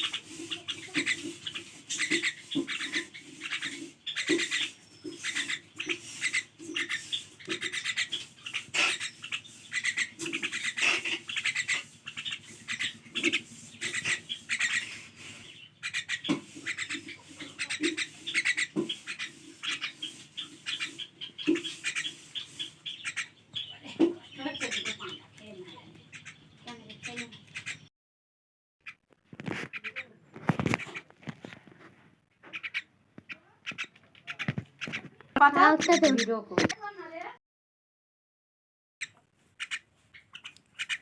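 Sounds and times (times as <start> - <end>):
myna squawking and chattering: 0.0 - 27.9, 28.8 - 31.2, 32.4 - 37.3, 39.1 - 41.0.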